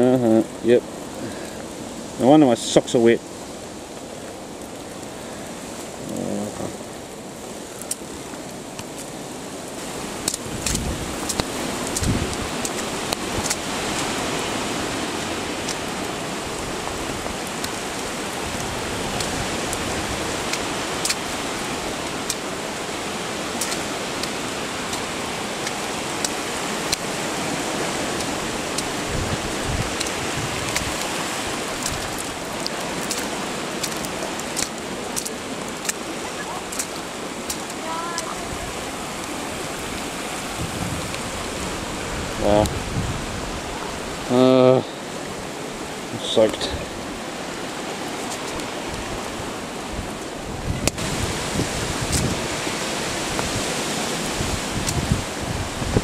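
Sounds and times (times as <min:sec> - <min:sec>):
rain and running water: 0:00.0 - 0:56.0.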